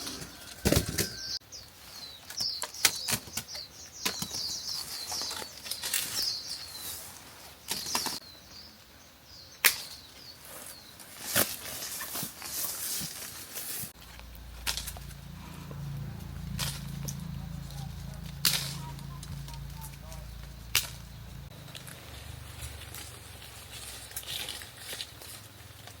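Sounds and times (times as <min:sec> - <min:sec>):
small birds chirping: 0:00.0 - 0:12.3, 0:16.2 - 0:26.0.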